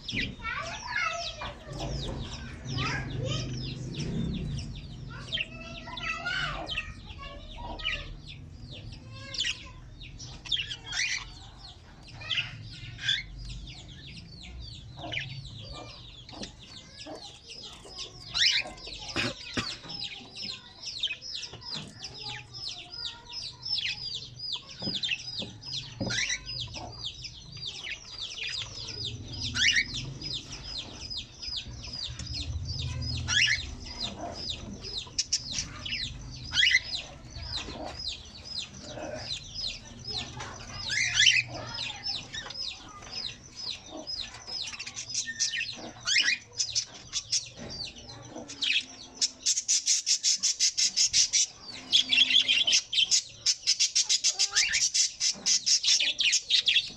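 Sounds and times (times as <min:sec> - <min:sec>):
parrots chirping: 0:00.0 - 0:56.9.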